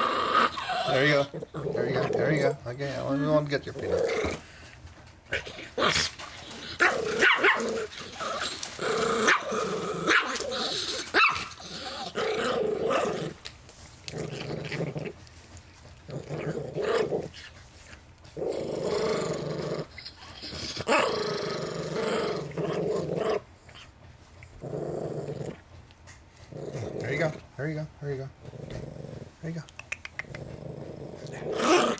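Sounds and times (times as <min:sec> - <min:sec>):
dog growling: 0:00.0 - 0:15.3, 0:15.9 - 0:17.6, 0:18.2 - 0:27.6, 0:28.3 - 0:31.9.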